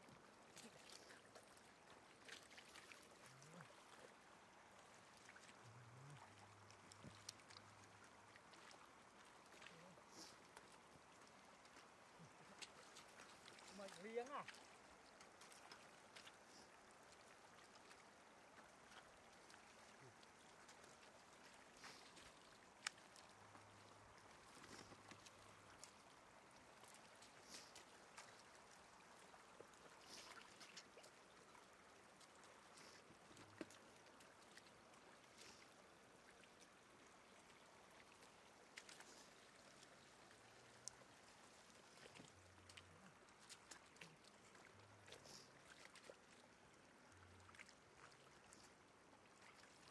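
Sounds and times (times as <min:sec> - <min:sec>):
shallow water splashing: 0:00.0 - 0:49.9.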